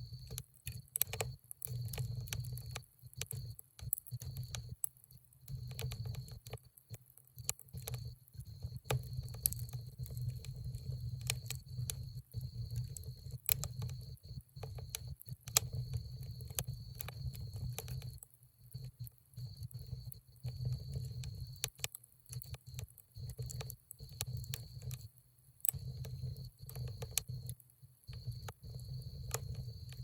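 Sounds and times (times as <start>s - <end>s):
wood fire crackling: 0.2s - 27.6s, 28.2s - 30.0s.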